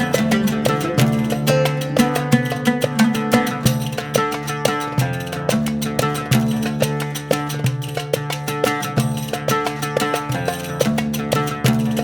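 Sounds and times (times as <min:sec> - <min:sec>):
upbeat latin music with guitar: 0:00.0 - 0:12.0.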